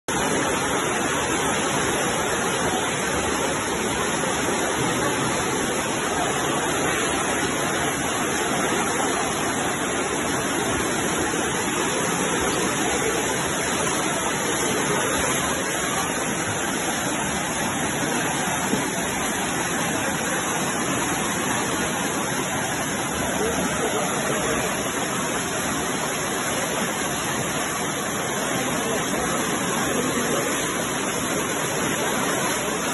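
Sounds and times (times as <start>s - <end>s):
rushing floodwater: 0.0s - 32.9s.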